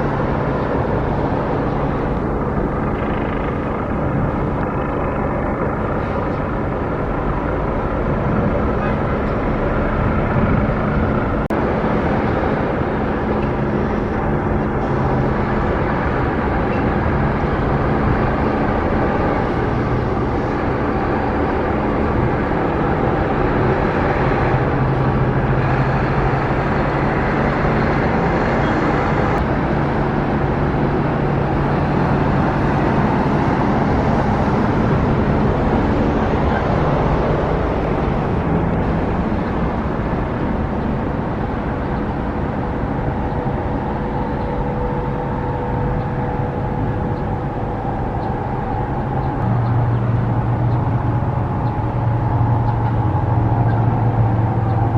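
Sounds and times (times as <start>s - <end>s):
vehicle engines humming: 0.0s - 54.9s.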